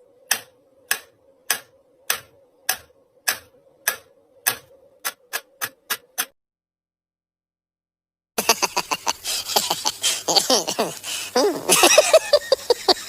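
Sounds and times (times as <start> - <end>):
faint steady hum: 0.0 - 6.2, 8.4 - 13.0.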